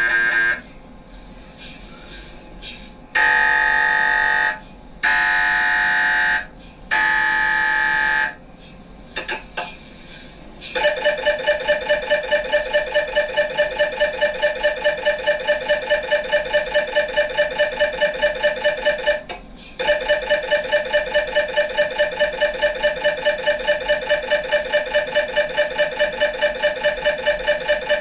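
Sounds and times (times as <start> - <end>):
mri scanner rhythmic beeping: 0.0 - 28.0.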